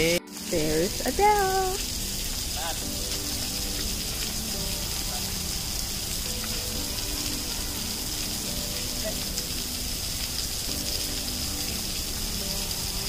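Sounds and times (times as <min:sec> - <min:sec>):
shower water spraying on concrete: 0:00.0 - 0:13.0.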